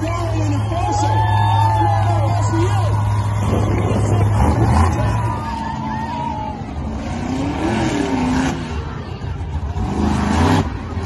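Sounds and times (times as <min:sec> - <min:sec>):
monster truck engine revving: 0:01.7 - 0:11.0.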